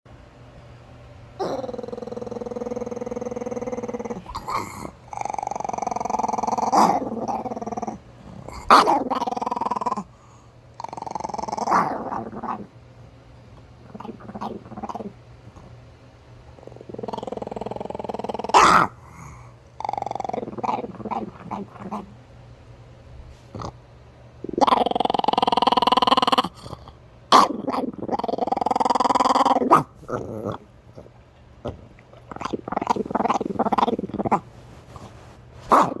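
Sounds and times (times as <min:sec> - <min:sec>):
small dog growling: 0:01.4 - 0:12.8, 0:13.8 - 0:15.8, 0:16.5 - 0:22.2, 0:23.3 - 0:23.8, 0:24.4 - 0:36.0.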